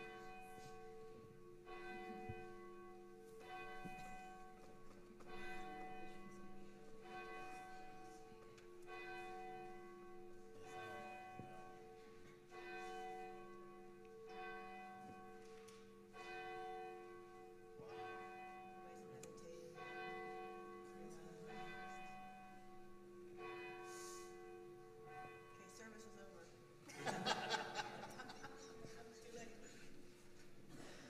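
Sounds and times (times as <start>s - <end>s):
church bell tolling: 0.0s - 29.9s.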